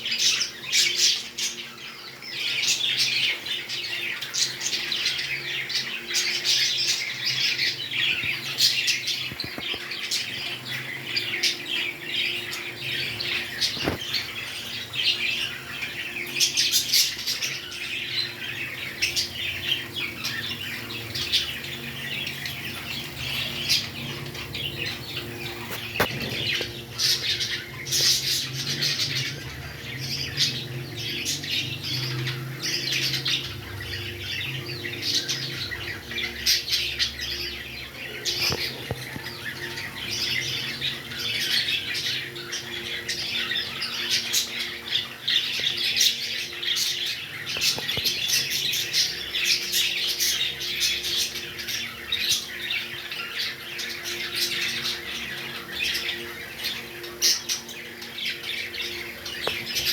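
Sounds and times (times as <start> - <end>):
parrots chirping and squawking: 0.0 - 59.9.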